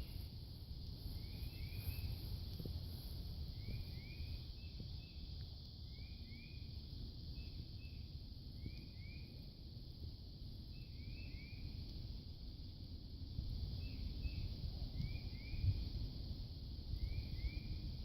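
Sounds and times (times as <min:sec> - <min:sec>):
faint high hiss: 0:00.0 - 0:18.0.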